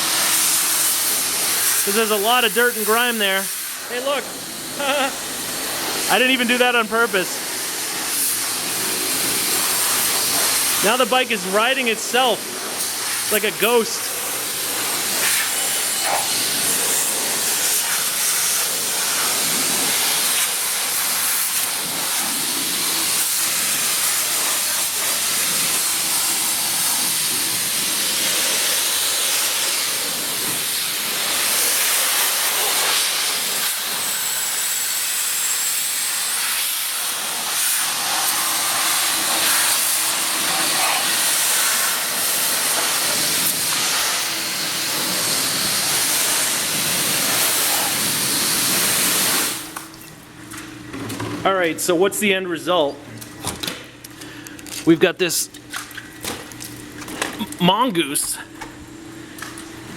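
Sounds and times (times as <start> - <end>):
pressure washer spraying water: 0.0 - 49.9.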